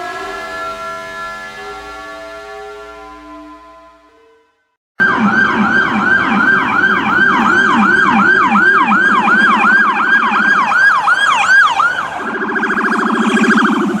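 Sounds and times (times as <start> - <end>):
two-tone electronic siren: 0.0 - 4.4, 5.0 - 14.0.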